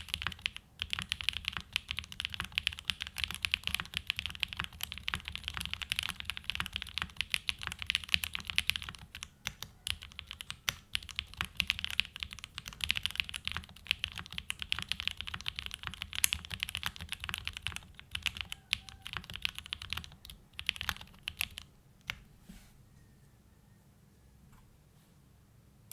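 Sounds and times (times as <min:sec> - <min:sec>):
fast typing on mechanical keyboard: 0:00.0 - 0:21.7.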